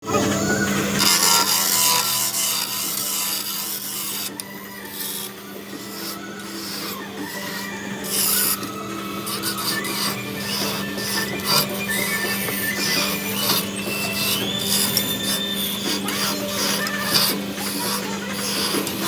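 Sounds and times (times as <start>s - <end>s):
tool cutting spinning wood: 0.0s - 19.0s
wood lathe motor hum: 0.0s - 19.0s.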